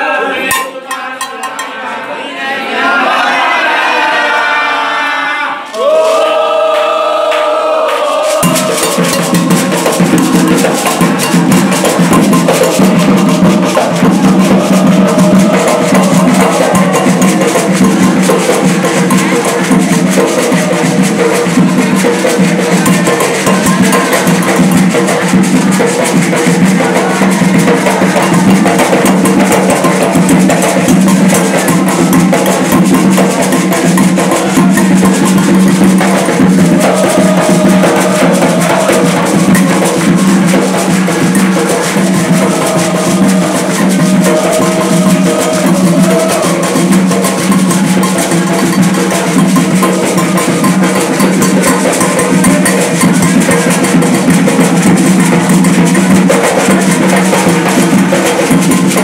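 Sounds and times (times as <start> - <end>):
loud drumming and percussion: 0.0 - 1.9, 5.7 - 59.0.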